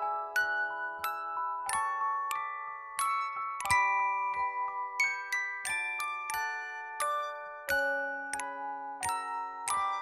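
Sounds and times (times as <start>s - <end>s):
glockenspiel playing gentle tune: 0.0s - 10.0s.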